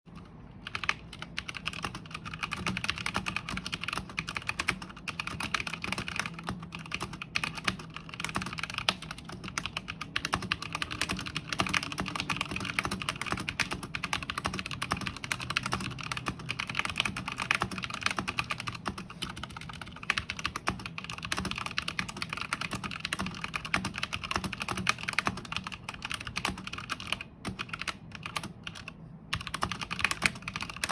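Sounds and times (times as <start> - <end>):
fast typing on mechanical keyboard: 0.1 - 30.9.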